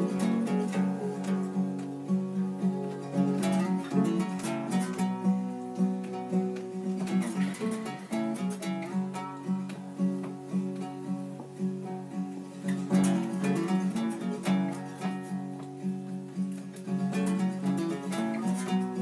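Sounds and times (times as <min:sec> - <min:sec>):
acoustic guitars playing folk song: 0:00.0 - 0:19.0.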